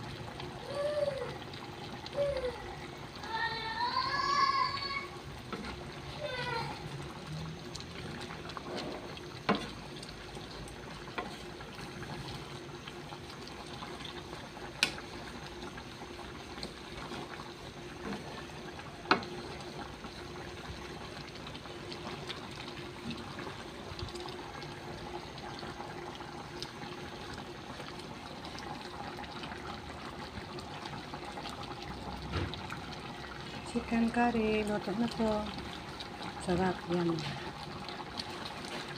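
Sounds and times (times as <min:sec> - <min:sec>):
pot simmering: 0:00.0 - 0:38.9.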